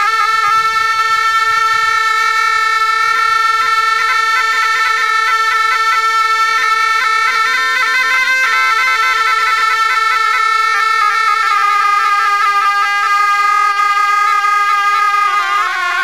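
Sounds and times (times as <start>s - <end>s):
double-reed shawms playing melody: 0.0s - 16.0s.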